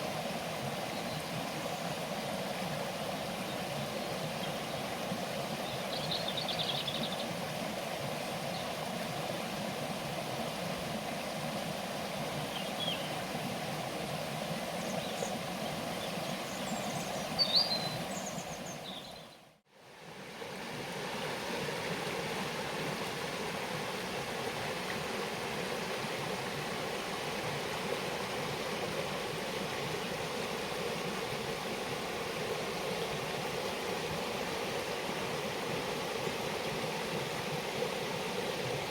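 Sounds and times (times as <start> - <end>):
running water rushing: 0.0 - 19.2, 19.8 - 38.9.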